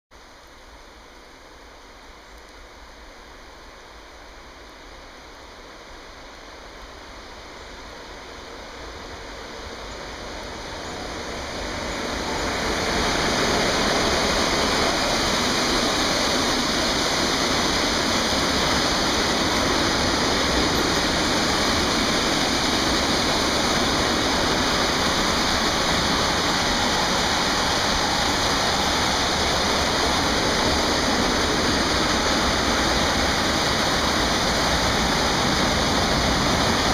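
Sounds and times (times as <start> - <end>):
freight train wheels rolling on rails: 5.6 - 36.9.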